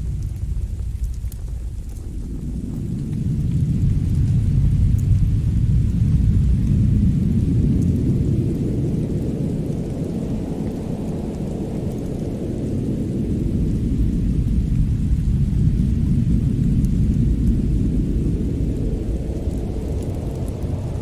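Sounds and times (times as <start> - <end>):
deep steady storm rumble: 0.0 - 21.0
faint fire crackles: 0.0 - 21.0.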